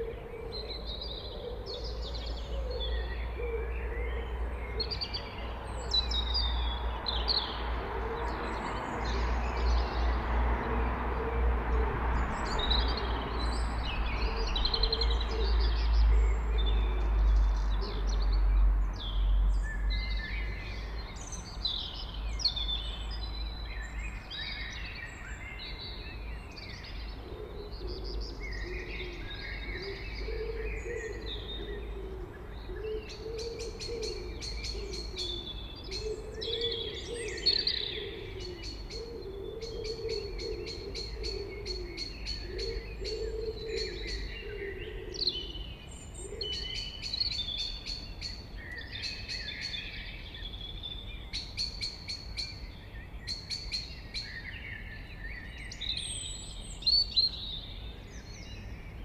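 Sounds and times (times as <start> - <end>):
blackbird singing: 0.0 - 10.1, 12.2 - 59.0.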